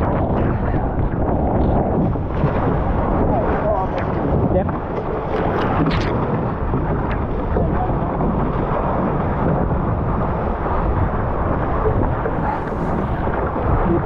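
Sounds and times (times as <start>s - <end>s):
water streaming past hull: 0.0s - 14.0s
wind buffeting microphone: 0.0s - 14.0s.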